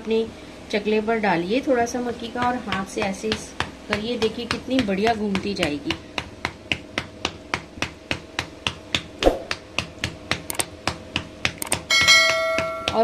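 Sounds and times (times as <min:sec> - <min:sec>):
hands patting dough: 0:02.0 - 0:13.0.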